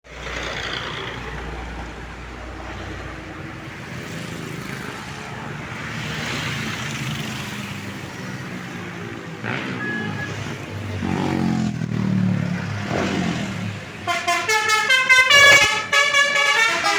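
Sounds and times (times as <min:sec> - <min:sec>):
traffic engine hum and tyre noise: 0:00.0 - 0:16.9.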